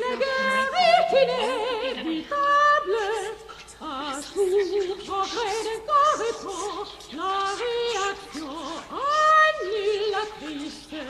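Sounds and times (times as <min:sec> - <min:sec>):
soprano singing with vibrato: 0:00.0 - 0:11.0.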